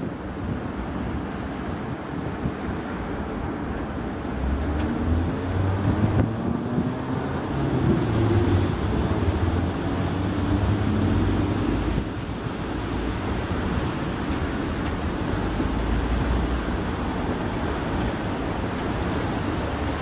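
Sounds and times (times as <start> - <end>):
car and truck engines humming: 0.0 - 20.0
tyres hissing on wet pavement: 0.0 - 20.0.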